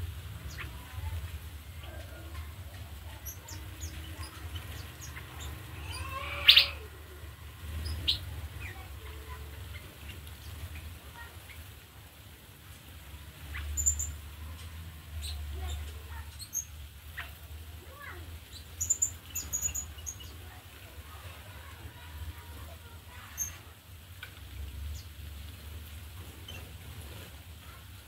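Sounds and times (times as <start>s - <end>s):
birds chirping and calling: 0.3s - 11.8s, 13.1s - 23.6s, 26.2s - 27.3s.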